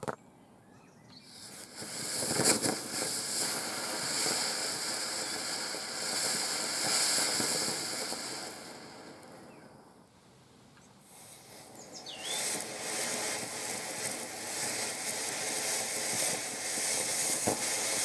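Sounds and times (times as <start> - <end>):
firework fountain hissing sparks: 1.1 - 10.2, 11.0 - 18.0
sharp firework crack: 1.2 - 10.1, 11.0 - 18.0.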